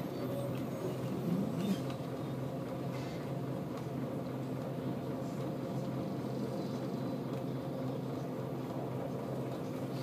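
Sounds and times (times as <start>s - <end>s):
bus diesel engine droning: 0.0s - 10.0s.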